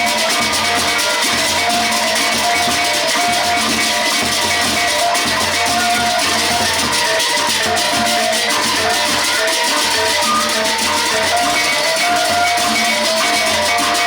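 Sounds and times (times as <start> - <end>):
jangling cymbals: 0.0 - 14.0
large drums: 0.0 - 14.0.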